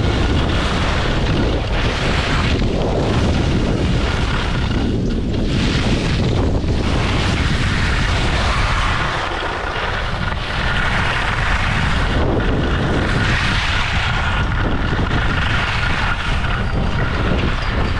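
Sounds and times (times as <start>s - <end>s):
wind over microphone: 0.0s - 17.9s
skis hissing on snow: 0.1s - 4.8s, 5.4s - 17.5s.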